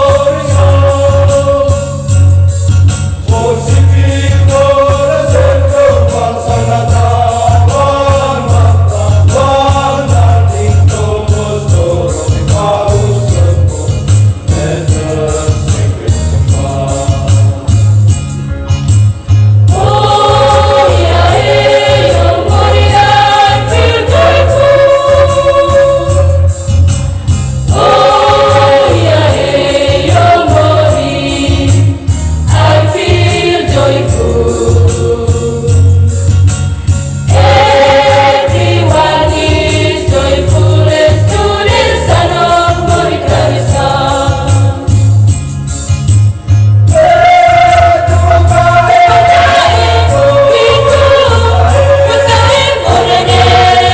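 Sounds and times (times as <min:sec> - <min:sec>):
choir singing gospel song: 0:00.0 - 0:18.0, 0:19.6 - 0:45.4, 0:46.9 - 0:53.9
instrumental backing with bass: 0:00.0 - 0:53.9.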